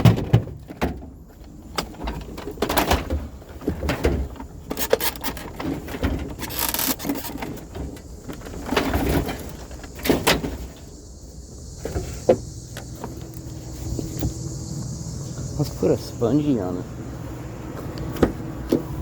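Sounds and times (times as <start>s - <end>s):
steady low hum: 1.0s - 19.0s.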